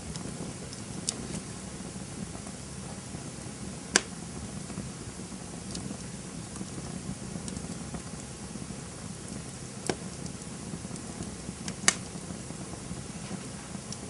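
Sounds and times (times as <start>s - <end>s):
burning wood popping: 0.0s - 14.0s
campfire flames rushing: 0.0s - 14.0s
faint crackles: 0.0s - 14.0s.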